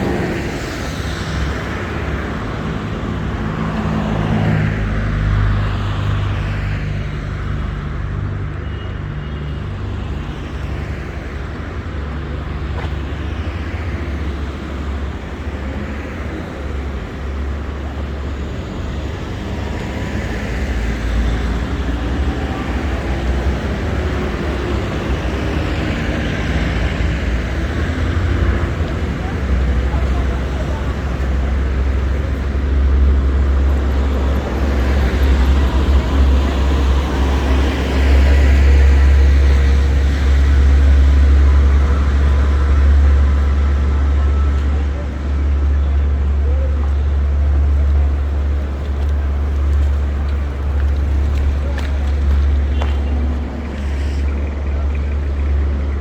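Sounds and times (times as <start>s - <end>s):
traffic passing: 0.0s - 56.0s.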